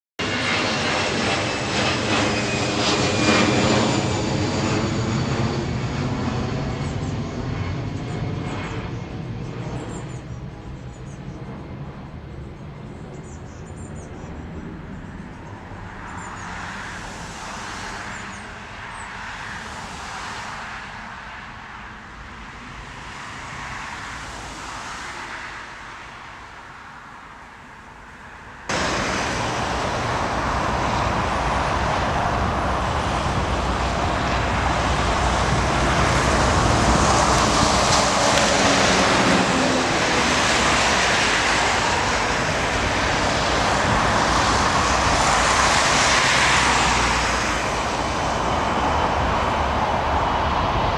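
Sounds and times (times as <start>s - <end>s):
jet engine noise: 0.2s - 50.9s.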